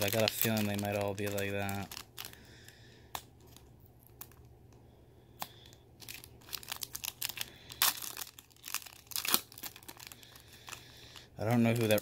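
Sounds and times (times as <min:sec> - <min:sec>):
foil wrapper crinkling: 0:00.0 - 0:04.5, 0:05.4 - 0:12.0.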